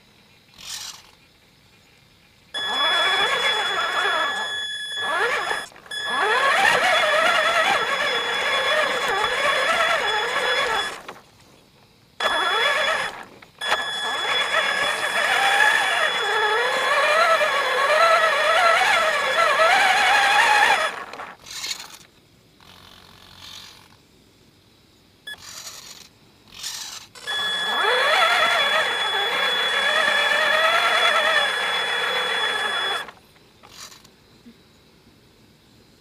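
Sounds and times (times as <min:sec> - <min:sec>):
toy truck motor whining: 0:00.6 - 0:01.2, 0:02.6 - 0:11.2, 0:12.2 - 0:24.0, 0:25.3 - 0:34.1.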